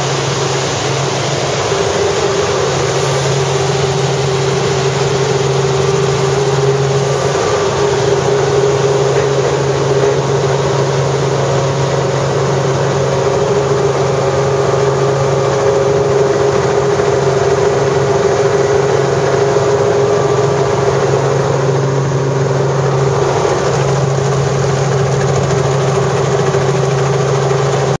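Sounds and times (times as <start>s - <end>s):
helicopter engine and rotors: 0.0s - 28.0s.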